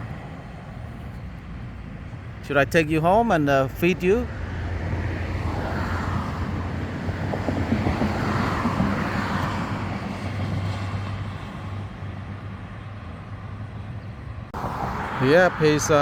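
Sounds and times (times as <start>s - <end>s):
car passing: 0.0s - 16.0s.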